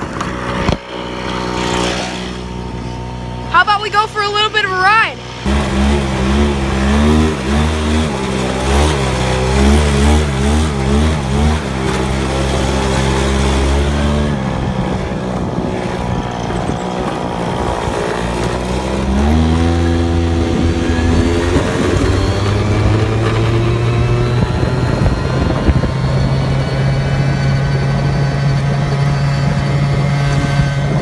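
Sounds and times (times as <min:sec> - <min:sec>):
small engine revving: 0:00.0 - 0:03.6, 0:04.3 - 0:31.0.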